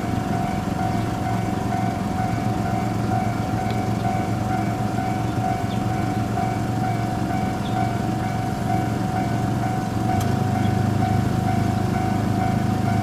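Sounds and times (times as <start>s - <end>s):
electric train whine: 0.0s - 13.0s.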